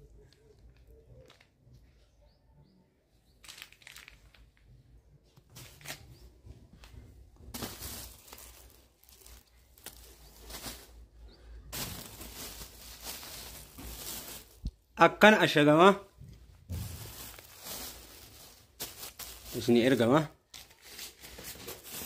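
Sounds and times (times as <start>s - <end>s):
rustling and handling noises: 0.0s - 2.0s, 3.4s - 22.0s.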